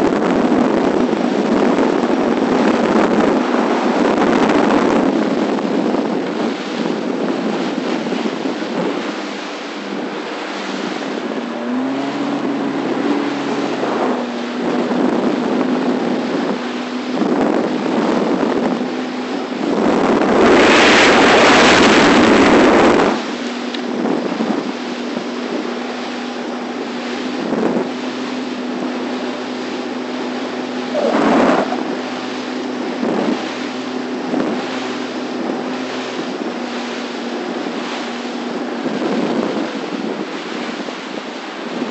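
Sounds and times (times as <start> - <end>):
boat motor humming: 0.0 - 41.9
water rushing: 0.0 - 41.9
wind buffeting microphone: 0.0 - 41.9.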